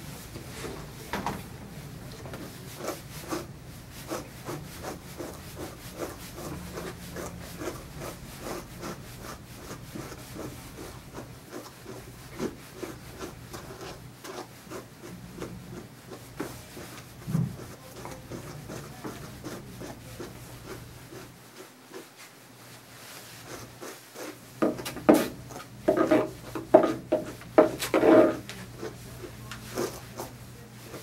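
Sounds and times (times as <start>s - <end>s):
brush rubbing through dog fur: 2.4s - 31.0s.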